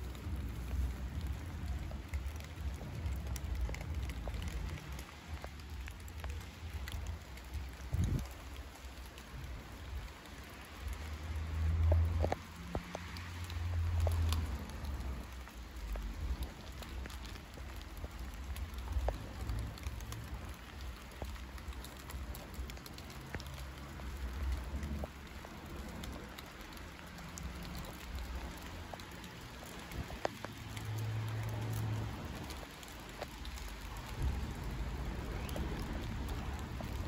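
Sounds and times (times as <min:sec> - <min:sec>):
drops ticking on surfaces: 0:00.0 - 0:37.0
rain falling steadily: 0:00.0 - 0:37.0.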